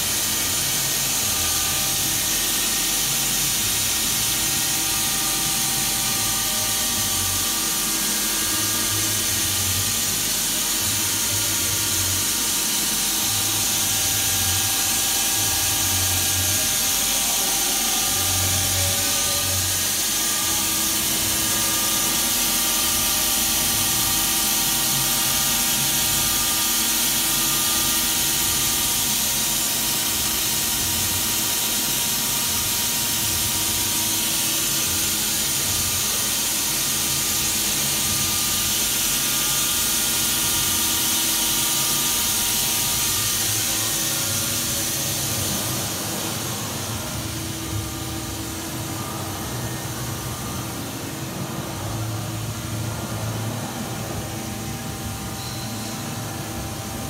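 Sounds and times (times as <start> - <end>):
machine steady hiss: 0.0 - 57.0.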